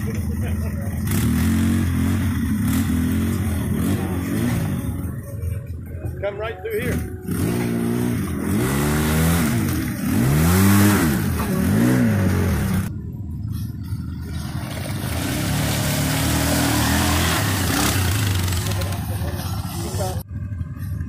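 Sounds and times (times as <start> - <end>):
vehicle engine revving: 0.0 - 5.3, 6.8 - 12.9, 14.2 - 20.3.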